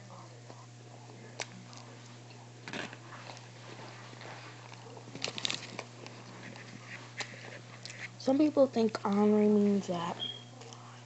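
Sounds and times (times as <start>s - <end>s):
child chewing food: 0.0s - 11.0s
steady low hum: 0.0s - 11.0s.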